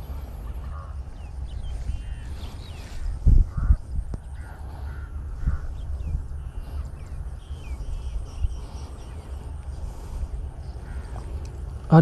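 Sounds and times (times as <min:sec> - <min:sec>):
birds chirping: 0:00.0 - 0:12.0
steady low rumble: 0:00.0 - 0:12.0.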